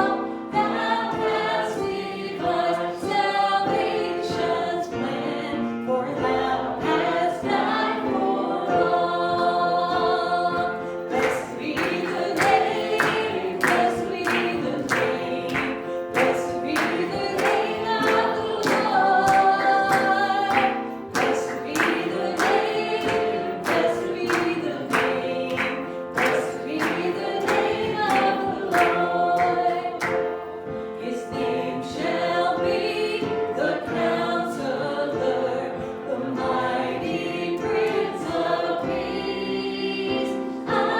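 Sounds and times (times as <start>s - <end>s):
voices singing a hymn: 0.0s - 40.9s.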